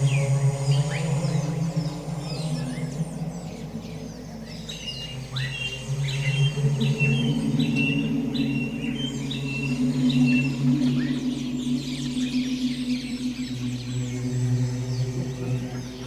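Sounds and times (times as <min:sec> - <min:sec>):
low sustained tones: 0:00.0 - 0:16.0
songbirds chirping: 0:00.0 - 0:16.0.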